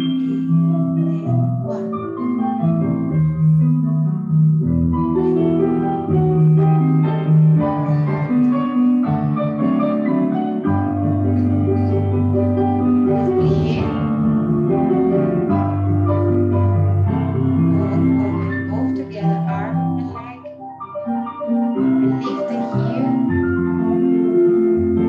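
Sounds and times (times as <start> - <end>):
instrumental ballet music: 0.0 - 25.0.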